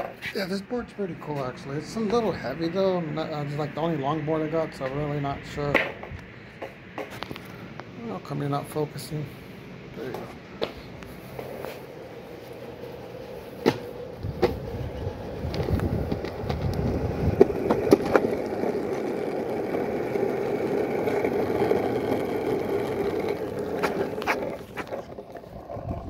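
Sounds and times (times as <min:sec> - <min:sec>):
skateboard wheels rolling: 0:00.0 - 0:08.4, 0:10.0 - 0:26.0.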